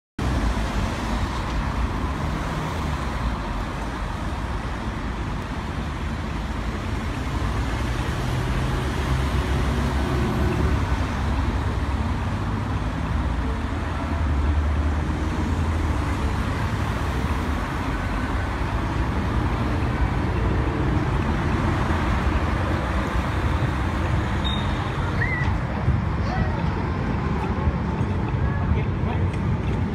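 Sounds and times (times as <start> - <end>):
cars driving past: 0.2 - 29.9.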